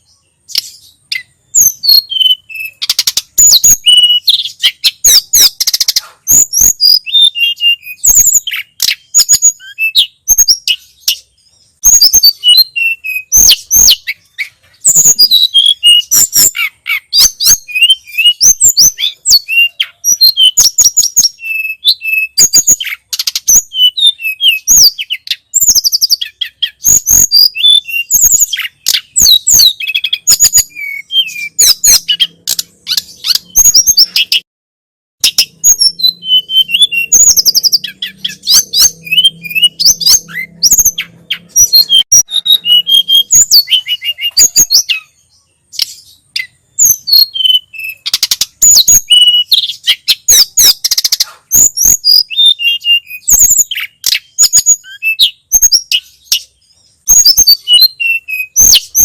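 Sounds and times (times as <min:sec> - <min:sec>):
songbird singing: 0:00.0 - 0:34.5, 0:35.2 - 0:59.0.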